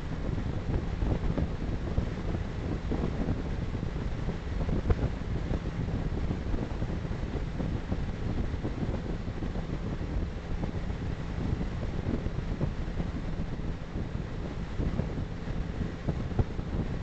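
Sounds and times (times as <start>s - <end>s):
car road rumble and wind: 0.0s - 17.0s.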